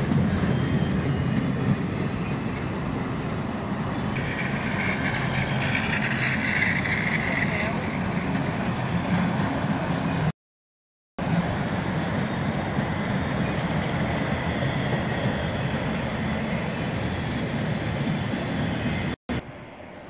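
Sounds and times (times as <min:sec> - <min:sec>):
train wheels rumbling on rails: 0:00.0 - 0:10.3, 0:11.2 - 0:19.4.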